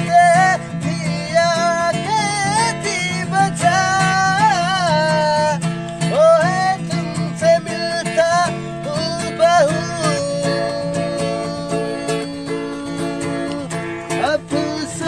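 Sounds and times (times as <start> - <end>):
acoustic guitar strummed: 0.0 - 15.0
person singing wordless melody: 0.0 - 15.0.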